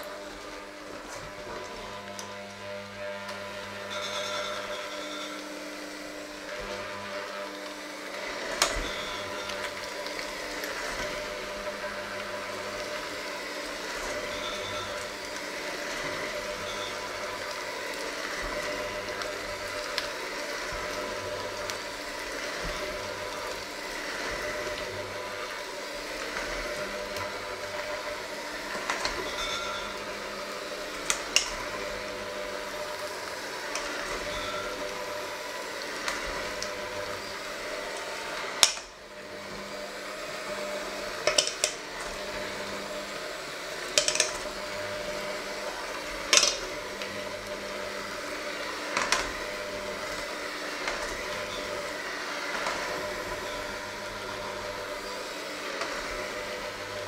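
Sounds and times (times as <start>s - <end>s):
electric hand mixer running: 0.0s - 57.0s.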